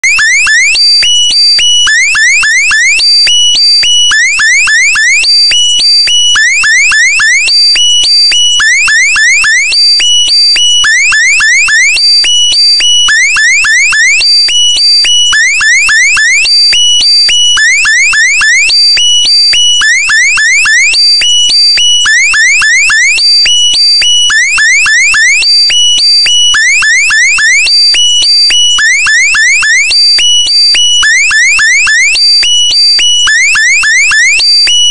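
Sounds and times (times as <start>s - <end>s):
electronic alarm chirps and beeps: 0.0s - 34.9s.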